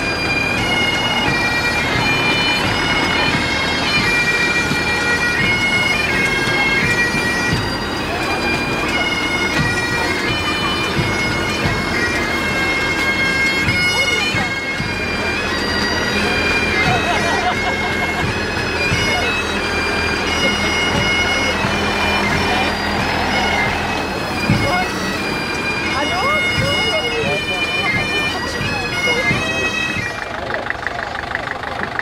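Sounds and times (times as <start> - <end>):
bagpipes playing a tune: 0.0 - 32.0.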